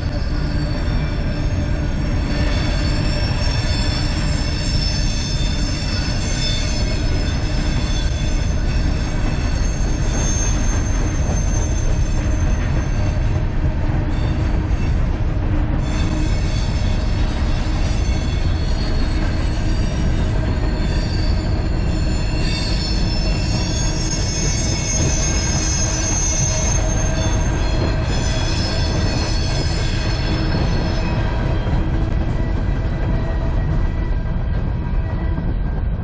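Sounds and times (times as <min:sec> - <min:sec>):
high-pitched wheel squeals: 0:00.0 - 0:34.2
train cars rolling past: 0:00.0 - 0:36.0.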